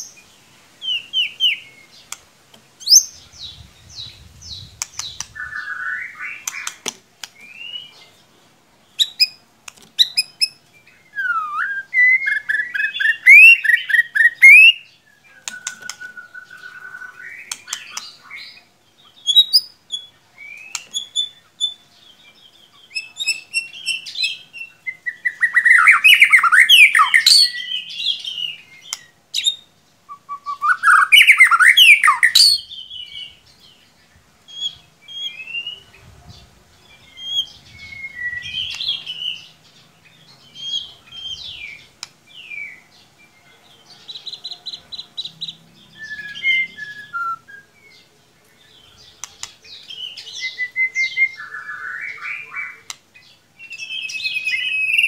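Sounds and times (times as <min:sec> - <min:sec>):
bird song with whistles and trills: 0:00.8 - 0:02.1, 0:02.8 - 0:08.2, 0:09.0 - 0:09.4, 0:10.0 - 0:33.8, 0:34.5 - 0:42.9, 0:44.2 - 0:48.1, 0:48.8 - 0:55.0.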